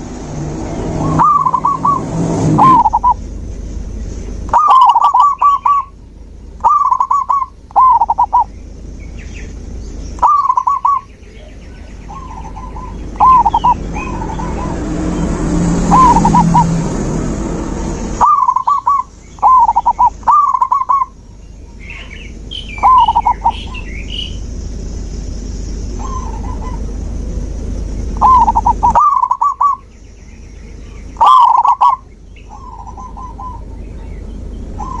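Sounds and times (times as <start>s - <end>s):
doves cooing: 0.0s - 3.3s, 4.3s - 16.8s, 18.2s - 24.4s, 25.9s - 27.2s, 27.9s - 29.9s, 30.7s - 35.0s
steady low hum: 0.0s - 35.0s
small bird chirping: 0.6s - 15.3s, 15.9s - 16.7s, 18.2s - 27.0s, 27.6s - 35.0s.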